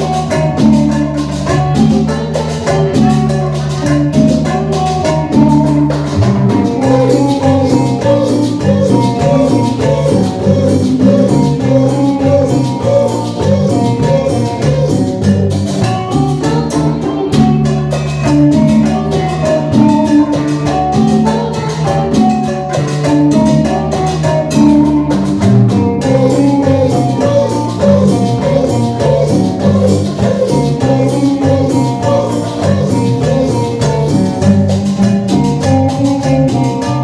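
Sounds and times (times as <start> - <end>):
live band playing latin dance music: 0.0 - 37.0.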